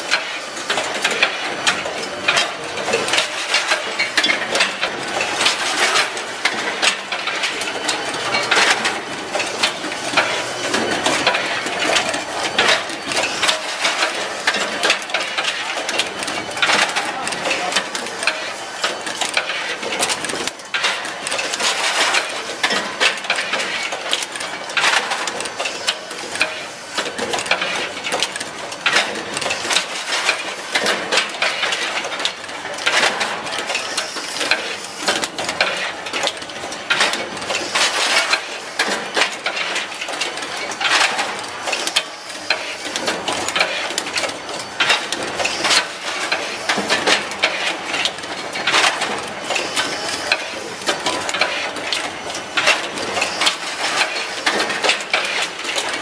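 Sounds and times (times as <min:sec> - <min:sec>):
assembly machine clattering: 0:00.0 - 0:56.0.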